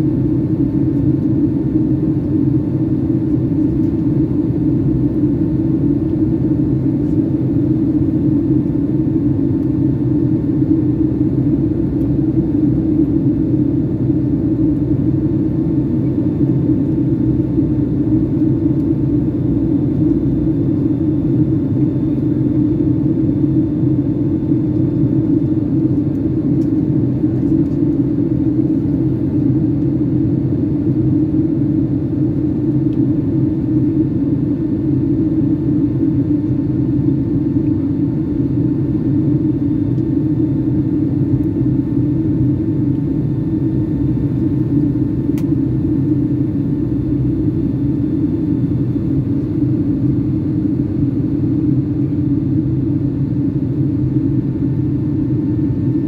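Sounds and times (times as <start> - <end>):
airplane cabin rumble: 0.0 - 56.0
faint steady whine: 0.0 - 56.0.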